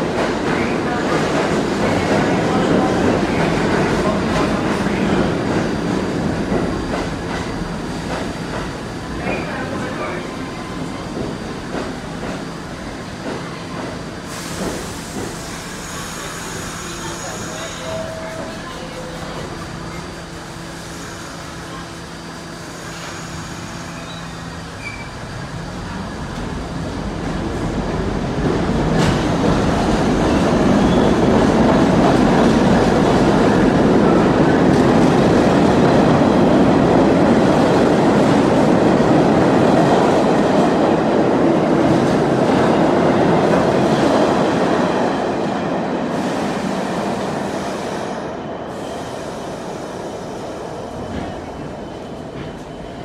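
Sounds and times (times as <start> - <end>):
rumble of passing train cars: 0.0 - 53.0
subway traction motors whining: 0.0 - 53.0.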